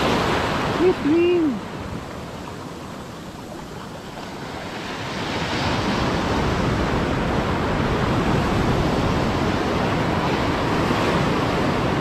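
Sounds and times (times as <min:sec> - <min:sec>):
sea surf washing on beach: 0:00.0 - 0:12.0
wind on microphone: 0:00.0 - 0:12.0.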